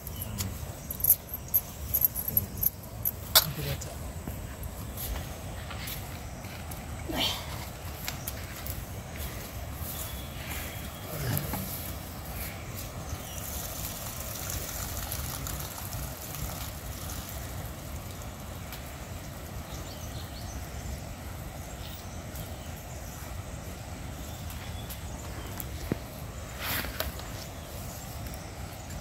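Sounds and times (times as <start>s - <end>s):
even hiss: 0.0s - 29.0s.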